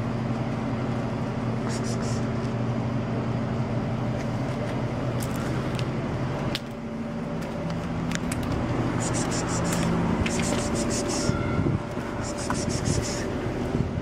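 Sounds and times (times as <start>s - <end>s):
street traffic: 0.0s - 14.0s
vehicle engine hum: 0.0s - 14.0s.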